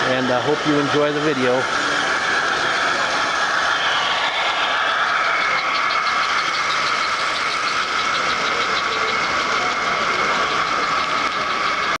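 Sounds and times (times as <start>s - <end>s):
toy train motor whine: 0.0s - 12.0s
rapid even ticking: 0.9s - 12.0s.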